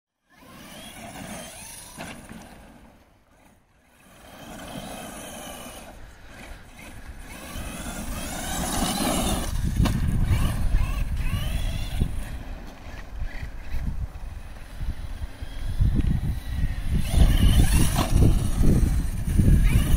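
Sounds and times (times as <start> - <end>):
rc truck electric motor whining: 0.2 - 19.9.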